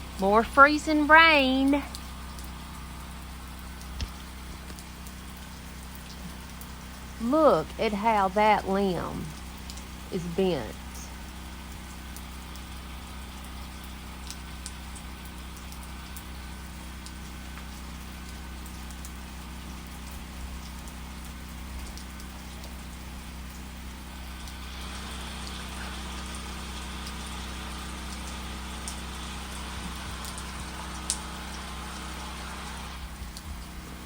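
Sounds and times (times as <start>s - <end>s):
freezing rain pattering: 0.0s - 34.0s.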